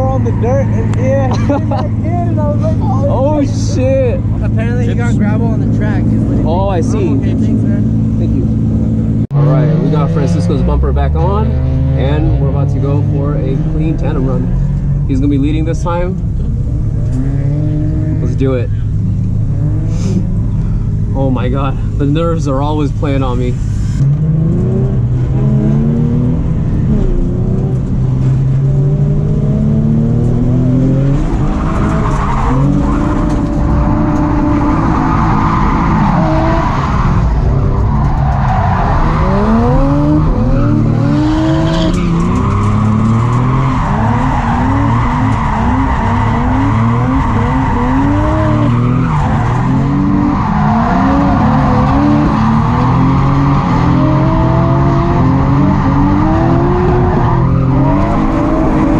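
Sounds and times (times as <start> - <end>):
car engine revving hard: 0.0 - 20.6, 24.0 - 58.9.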